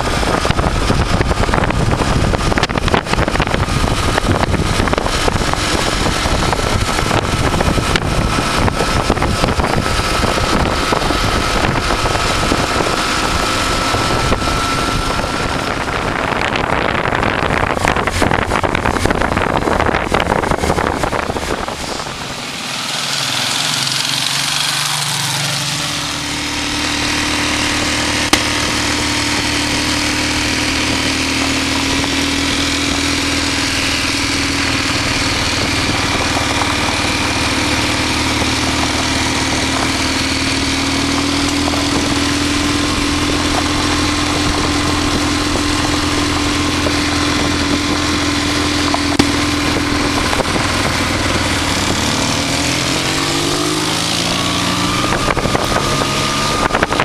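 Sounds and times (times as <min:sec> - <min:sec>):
wind buffeting microphone: 0:00.0 - 0:24.7, 0:26.2 - 0:57.0
motorcycle engines: 0:00.0 - 0:57.0.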